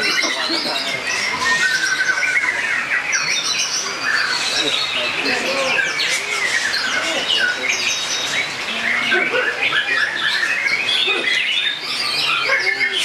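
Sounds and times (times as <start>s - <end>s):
chorus of songbirds: 0.0s - 13.0s.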